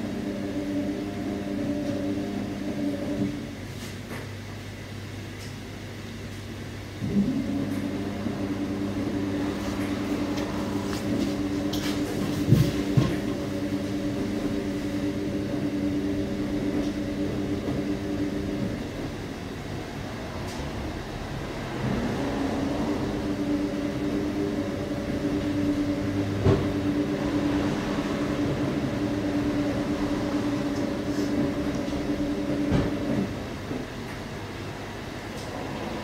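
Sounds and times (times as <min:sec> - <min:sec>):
washing machine drum humming: 0:00.0 - 0:36.0.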